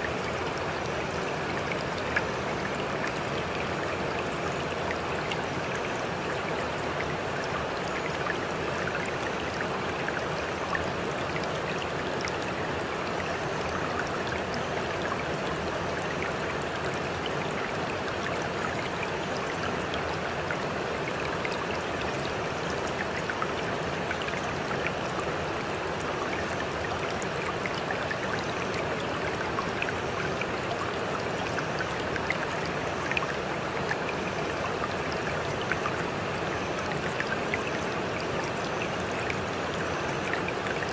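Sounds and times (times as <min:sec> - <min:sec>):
faint drip-like ticks: 0:00.0 - 0:40.9
flowing water: 0:00.0 - 0:40.9.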